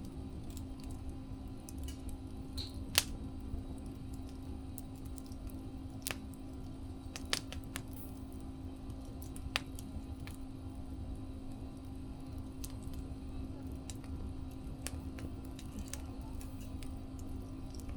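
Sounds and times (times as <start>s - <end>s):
faint steady hum: 0.0s - 17.9s
wood fire crackling: 0.0s - 17.9s.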